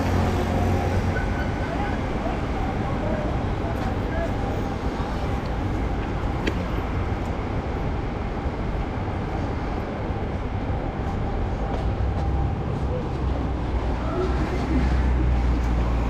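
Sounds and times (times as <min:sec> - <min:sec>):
street noise hiss: 0:00.0 - 0:16.0
traffic rumble: 0:00.0 - 0:16.0.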